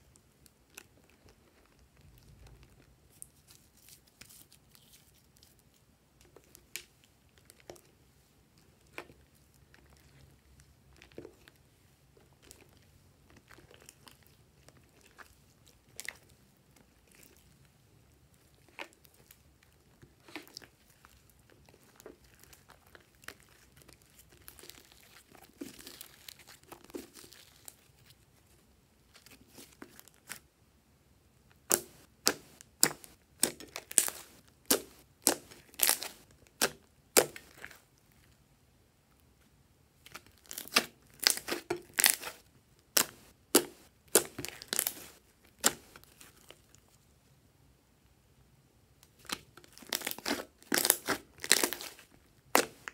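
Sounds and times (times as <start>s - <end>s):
slime squishing: 0.3s - 30.5s, 31.5s - 38.4s, 40.0s - 47.0s, 49.1s - 52.9s.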